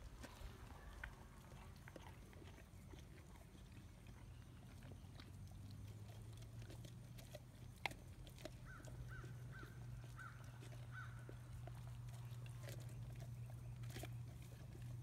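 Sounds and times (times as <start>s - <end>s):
dogs chewing crunching: 0.0s - 15.0s
low steady hum: 0.0s - 15.0s.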